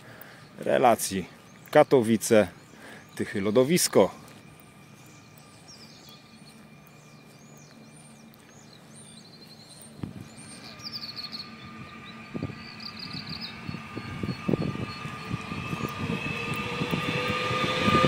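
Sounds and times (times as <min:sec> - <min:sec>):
small birds chirping: 0:00.0 - 0:17.1
electric train whine: 0:00.0 - 0:18.0.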